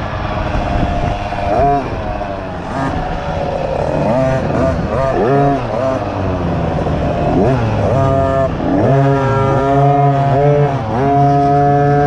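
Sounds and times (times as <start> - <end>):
dirt bike engine revving: 0.0 - 12.0
wind: 0.0 - 12.0.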